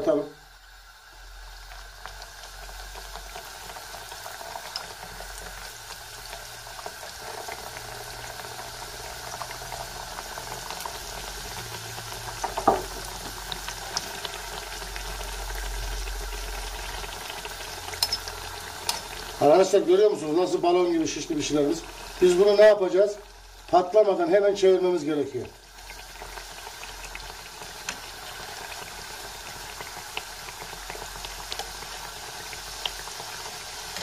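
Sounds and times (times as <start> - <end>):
dough deep-frying in hot oil: 0.0 - 34.0.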